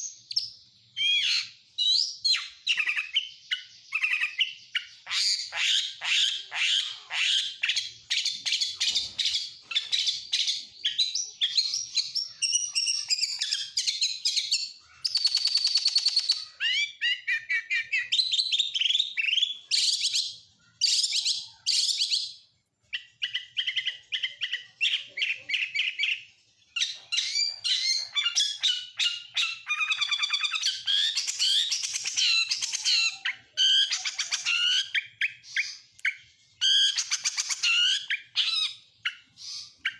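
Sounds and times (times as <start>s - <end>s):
bird singing whistled notes and trills: 0.0s - 39.9s.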